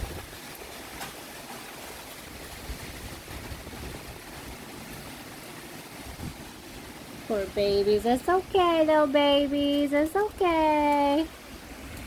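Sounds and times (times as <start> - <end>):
driving rain: 0.0 - 12.0
wind: 0.0 - 12.0.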